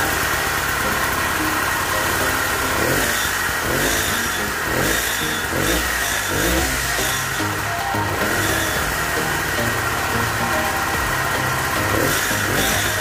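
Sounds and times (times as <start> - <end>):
small petrol engine revving: 0.0 - 13.0.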